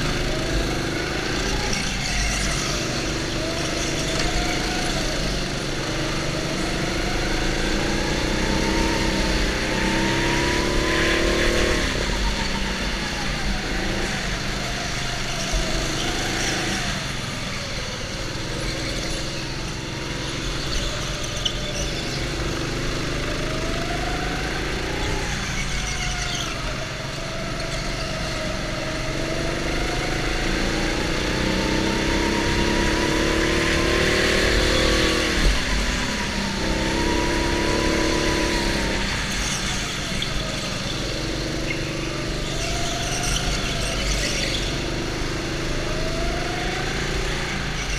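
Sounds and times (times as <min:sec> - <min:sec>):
go-kart motor revving: 0:00.0 - 0:47.9.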